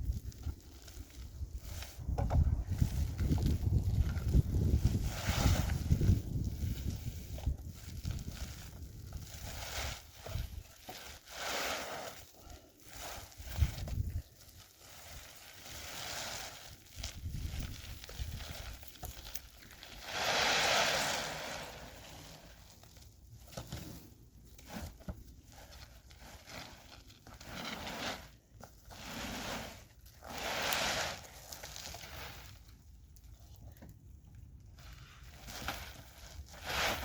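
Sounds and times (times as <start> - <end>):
rustling and crinkling: 0.0 - 37.0.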